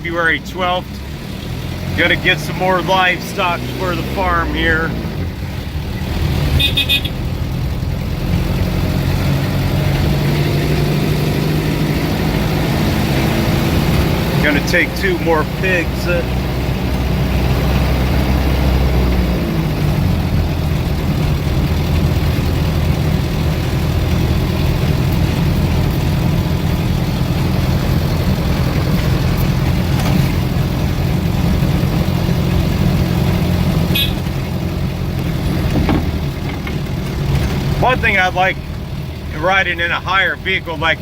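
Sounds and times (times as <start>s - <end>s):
vehicle engine and road noise: 0.0s - 41.0s.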